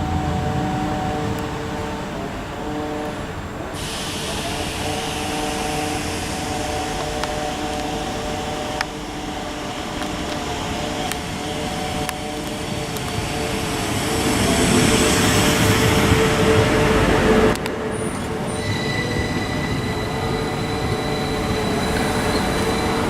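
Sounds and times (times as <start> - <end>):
electric train humming: 0.0 - 23.0.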